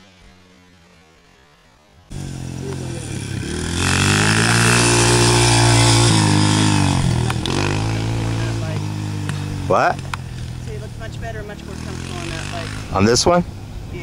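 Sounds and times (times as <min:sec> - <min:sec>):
dirt bike engine: 0:00.0 - 0:14.0.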